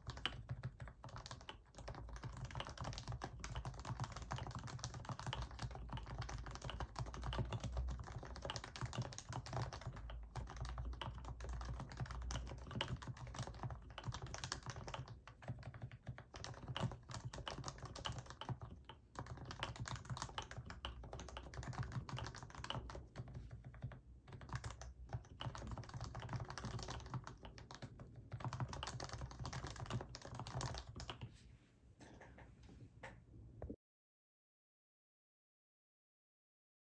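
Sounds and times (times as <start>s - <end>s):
keyboard typing: 0.0s - 31.3s.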